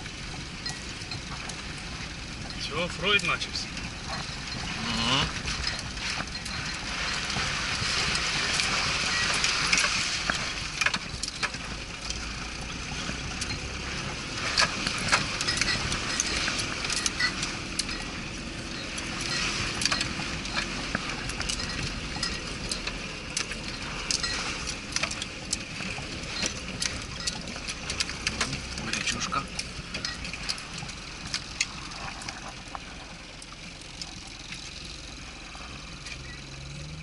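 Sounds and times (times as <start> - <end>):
knocks and rattles: 0.0 - 35.2
off-road vehicle engine and tyres: 0.0 - 37.0.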